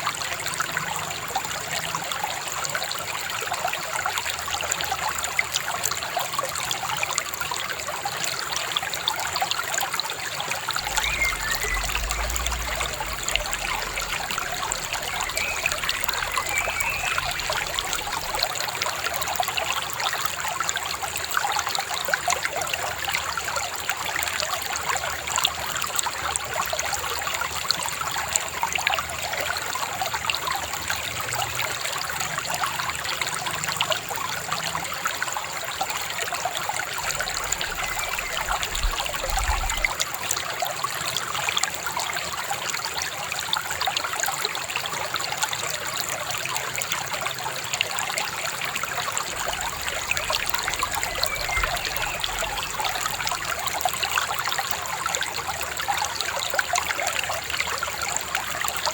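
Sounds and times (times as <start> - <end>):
river babbling over stones: 0.0 - 30.1, 31.7 - 58.9.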